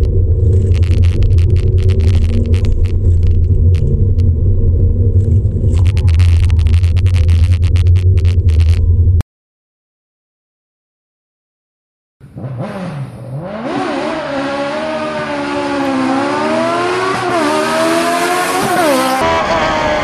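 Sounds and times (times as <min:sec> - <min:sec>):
race car engine at full throttle: 0:00.0 - 0:09.2, 0:12.2 - 0:20.0.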